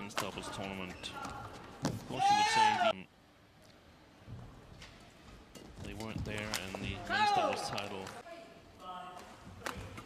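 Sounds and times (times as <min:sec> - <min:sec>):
arena background noise: 0:00.0 - 0:10.0.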